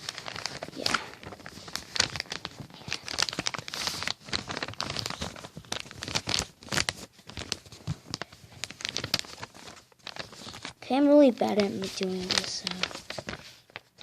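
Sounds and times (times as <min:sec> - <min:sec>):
paper crinkling being folded: 0:00.0 - 0:14.0.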